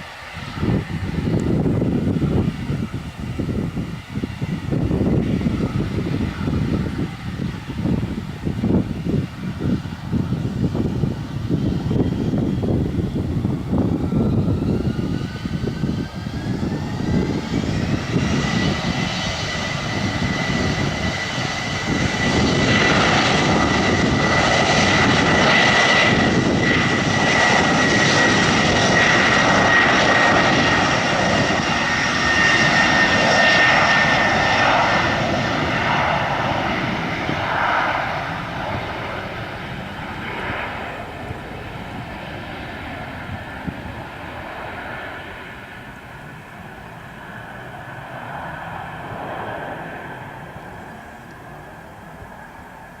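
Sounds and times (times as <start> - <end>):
airplane engines whining: 0.0 - 53.0.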